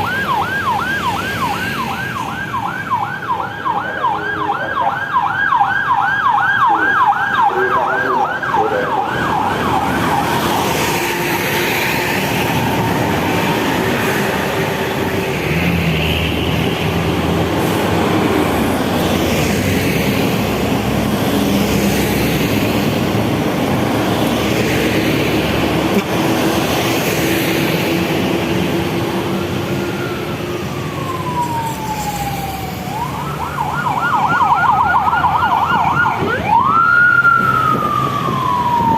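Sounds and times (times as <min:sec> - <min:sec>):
heavy passing traffic: 0:00.0 - 0:38.9
long steady vehicle tones: 0:00.0 - 0:38.9
siren yelping and wailing: 0:00.0 - 0:38.9.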